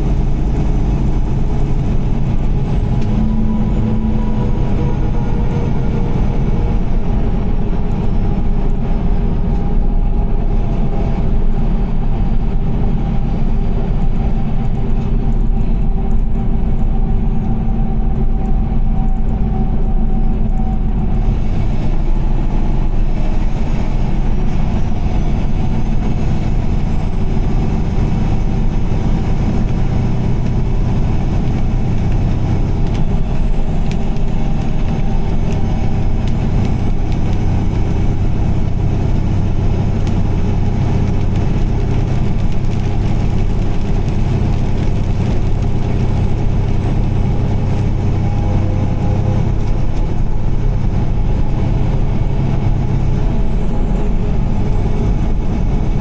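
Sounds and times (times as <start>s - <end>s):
car driving on wet road: 0.0s - 56.0s
rain: 0.0s - 56.0s.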